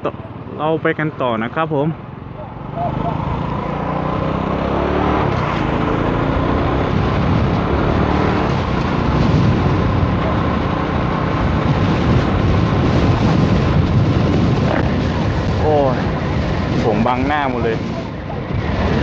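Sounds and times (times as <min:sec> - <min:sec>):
road noise: 0:00.0 - 0:19.0
vehicle engine: 0:00.0 - 0:19.0
strong storm wind: 0:01.9 - 0:19.0.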